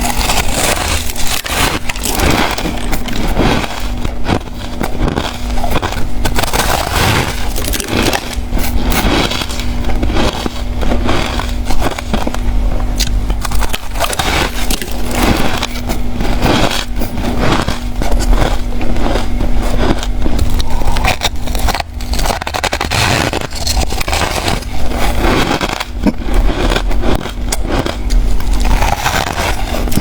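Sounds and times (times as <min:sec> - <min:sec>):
faint steady hum: 0:00.0 - 0:30.0
ice being chewed: 0:00.0 - 0:30.0.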